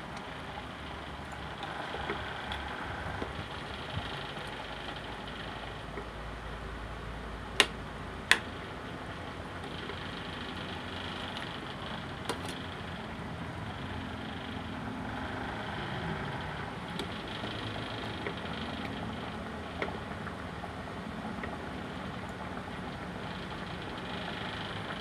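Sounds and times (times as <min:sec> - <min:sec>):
pot boiling and bubbling: 0:00.0 - 0:25.0.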